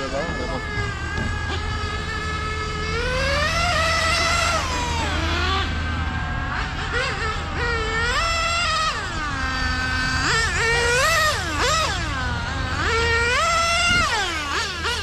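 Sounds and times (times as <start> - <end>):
model car nitro engine screaming: 0.0 - 15.0.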